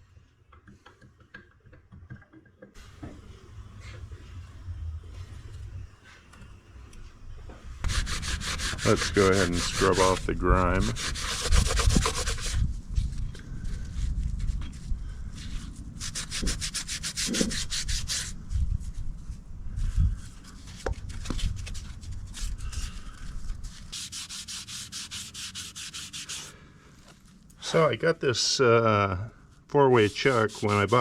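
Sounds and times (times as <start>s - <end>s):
brush scrubbing metal: 2.8s - 26.5s, 29.9s - 31.0s.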